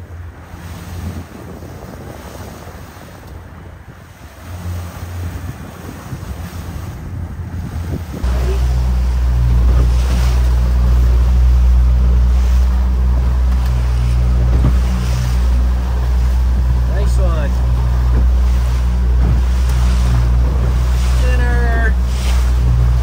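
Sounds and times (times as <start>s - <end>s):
ocean waves: 0.0s - 23.0s
outboard motors droning: 0.0s - 23.0s
wind and water rushing: 0.0s - 23.0s.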